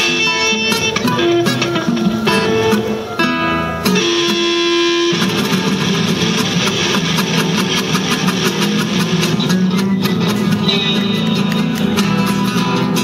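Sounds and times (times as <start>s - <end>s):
live band with guitars: 0.0s - 13.0s.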